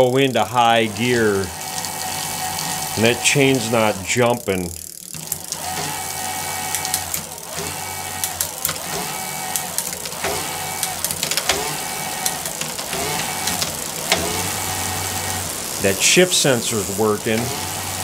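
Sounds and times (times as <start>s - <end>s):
bike chain running over cassette: 0.0s - 18.0s
chain clicking on cogs: 0.0s - 18.0s
electric bike motor whining: 0.0s - 18.0s.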